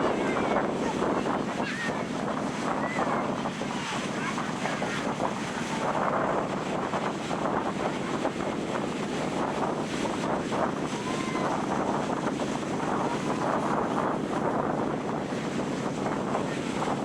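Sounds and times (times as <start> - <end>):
ocean surf on sandy beach: 0.0 - 17.0
wind buffeting microphone: 0.0 - 17.0.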